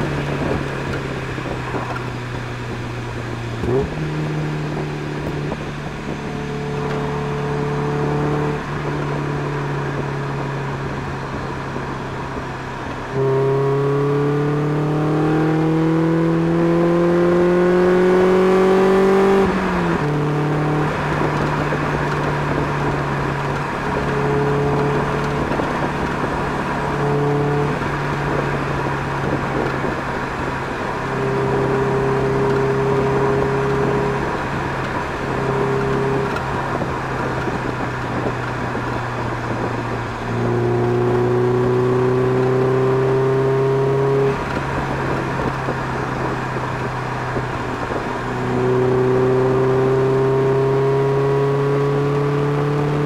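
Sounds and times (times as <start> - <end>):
car exhaust note: 0.0 - 53.0.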